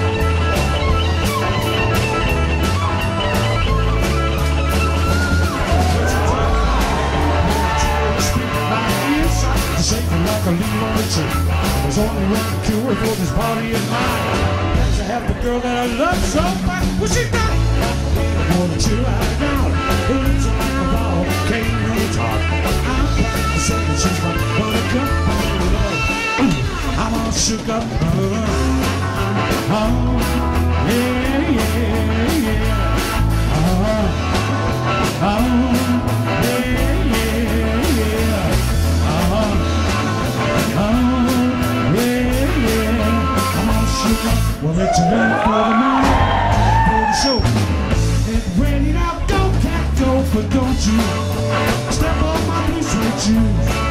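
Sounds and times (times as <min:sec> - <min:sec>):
rock band playing: 0:00.0 - 0:53.9.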